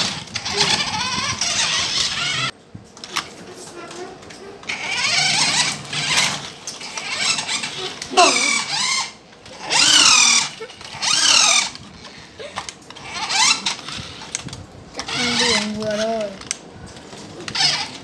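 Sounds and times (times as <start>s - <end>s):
electric toy car motors whining: 0.0s - 3.2s, 4.6s - 16.6s, 17.4s - 18.0s.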